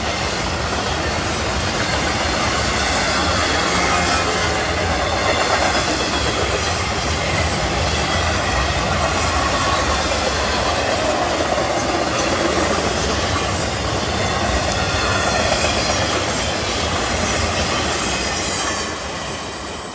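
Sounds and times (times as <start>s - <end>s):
freight train wheels rumbling: 0.0s - 19.9s.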